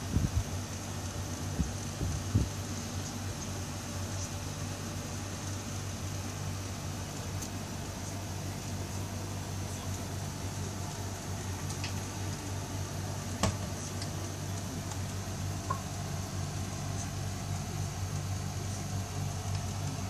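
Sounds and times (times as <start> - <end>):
low hum and hiss of room: 0.0 - 20.0.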